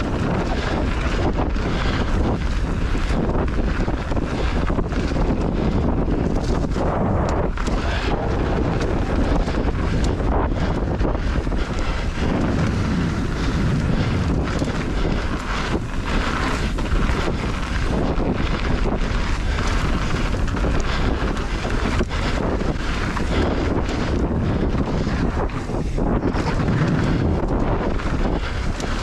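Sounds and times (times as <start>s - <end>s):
tyre rumble on dirt: 0.0s - 29.0s
wind buffeting microphone: 0.0s - 29.0s.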